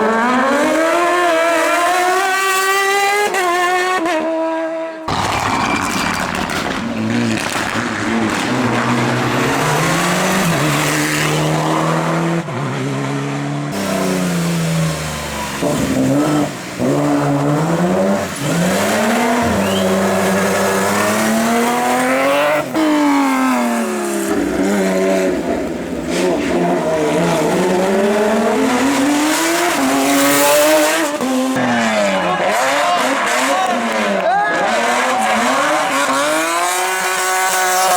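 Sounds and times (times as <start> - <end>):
race car engine revving: 0.0 - 5.2, 5.8 - 37.9.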